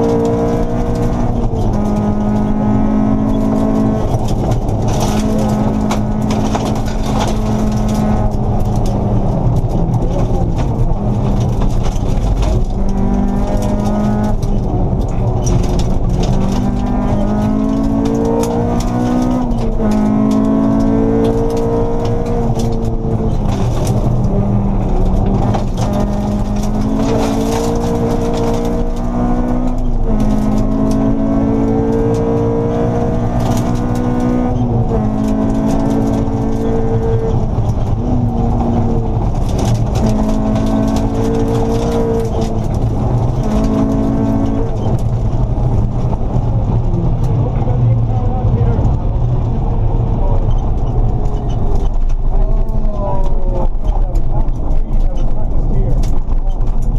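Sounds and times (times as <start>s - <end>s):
car engine accelerating through gears: 0.0s - 56.9s
gravel road noise: 0.0s - 56.9s.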